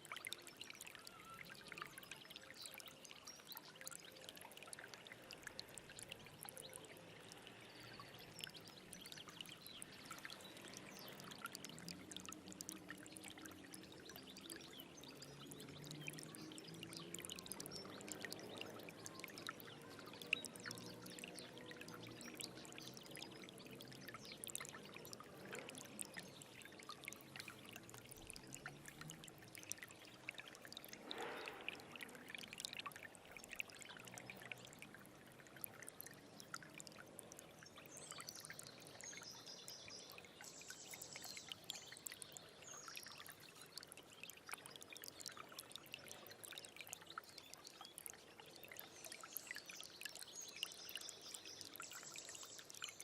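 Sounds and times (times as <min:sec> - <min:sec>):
stream trickling over stones: 0:00.0 - 0:53.0.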